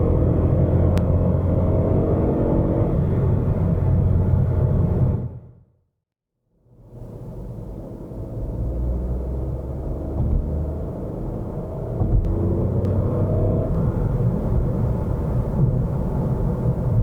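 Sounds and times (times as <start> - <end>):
car engine accelerating: 0.0 - 5.4, 8.1 - 17.0
low road rumble: 0.0 - 5.8, 6.6 - 17.0.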